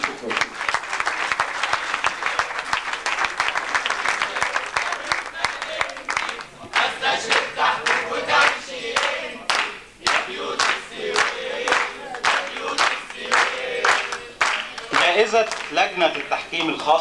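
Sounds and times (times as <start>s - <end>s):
rhythmic clapping: 0.0s - 17.0s
audience chanting and cheering: 1.3s - 17.0s.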